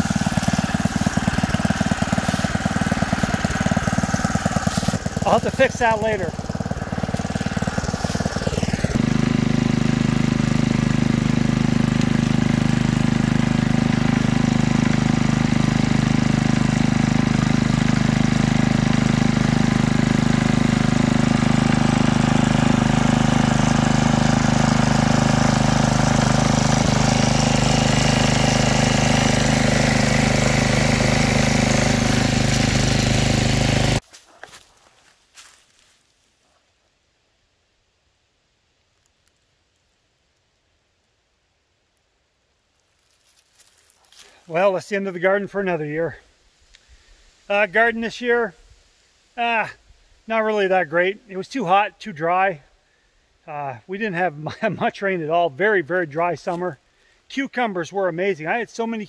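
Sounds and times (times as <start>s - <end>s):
garden tiller engine running: 0.0s - 34.6s, 43.1s - 46.2s, 47.5s - 48.3s, 49.4s - 59.0s.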